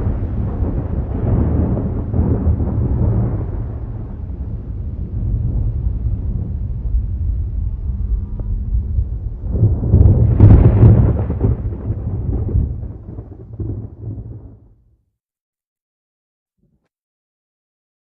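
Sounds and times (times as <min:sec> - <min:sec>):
thunder rumbling: 0:00.0 - 0:14.7.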